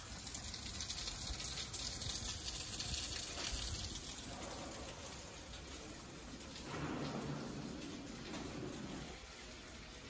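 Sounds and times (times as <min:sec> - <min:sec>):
rain on concrete and gravel: 0:00.0 - 0:10.0.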